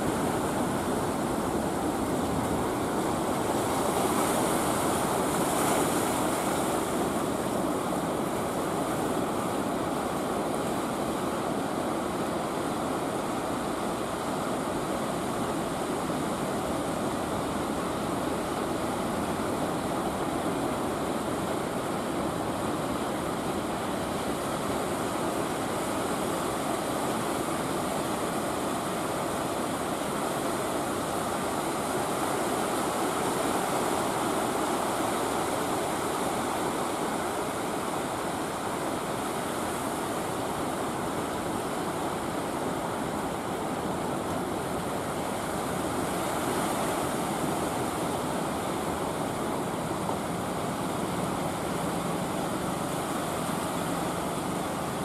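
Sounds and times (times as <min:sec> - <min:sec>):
waves breaking: 0:00.0 - 0:55.0.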